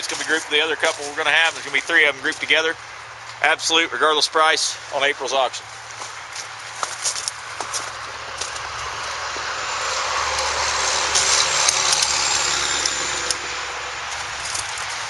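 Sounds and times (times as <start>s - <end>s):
road vehicle passing by: 0.0s - 15.0s.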